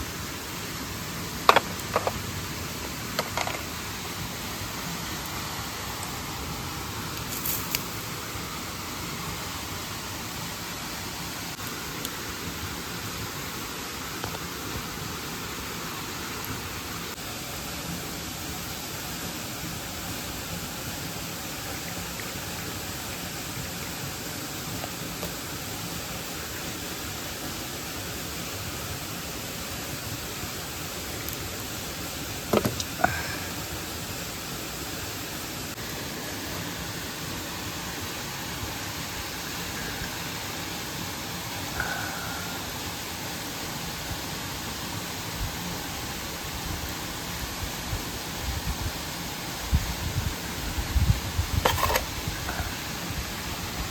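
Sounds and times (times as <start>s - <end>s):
rushing stream and waterfall: 0.0s - 53.9s.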